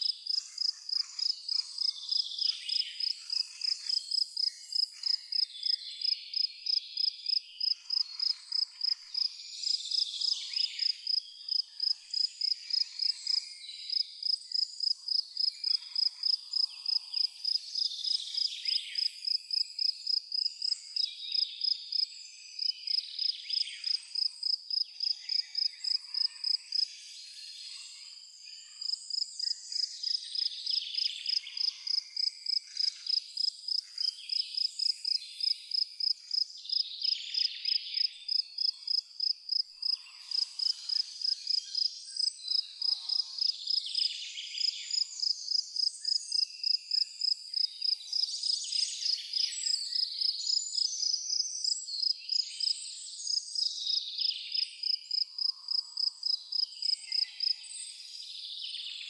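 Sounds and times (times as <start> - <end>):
cricket chirping: 0.0 - 26.9, 27.9 - 57.6.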